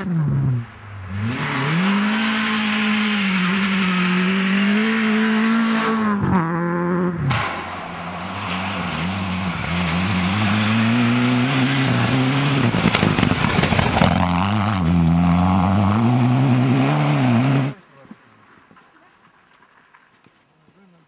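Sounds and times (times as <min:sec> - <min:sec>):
rally car engine revving: 0:00.0 - 0:17.8.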